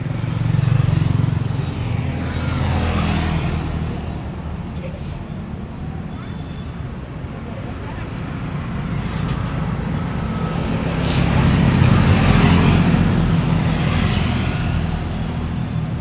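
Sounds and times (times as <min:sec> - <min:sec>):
background road noise: 0:00.0 - 0:16.0.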